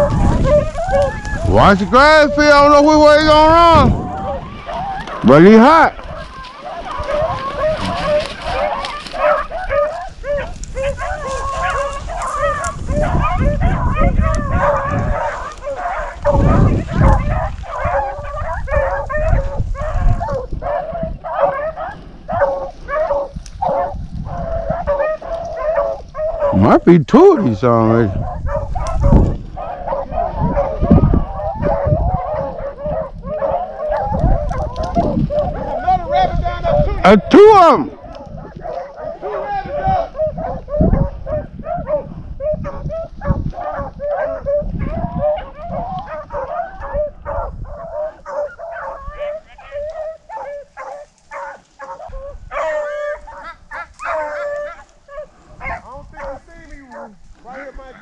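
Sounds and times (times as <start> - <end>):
hounds baying: 0.0 - 58.0.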